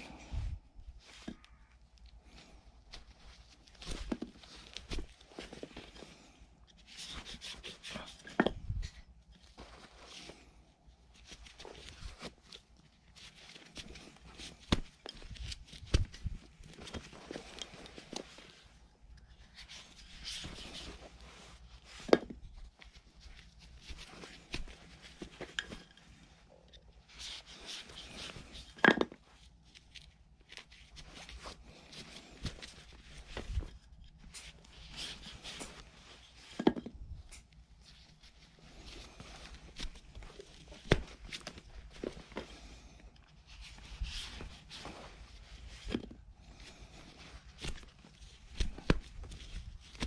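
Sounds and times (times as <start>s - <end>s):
rope strands rustling: 0.0s - 50.0s.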